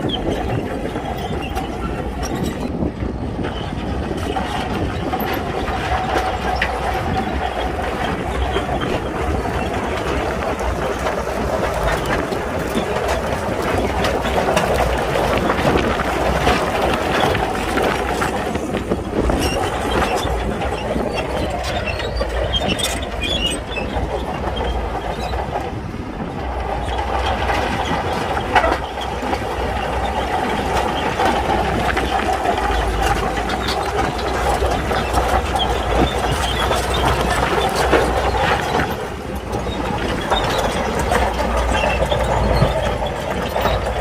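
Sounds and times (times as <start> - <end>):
diesel engine running: 0.0 - 44.0
steel tracks clattering: 0.0 - 44.0.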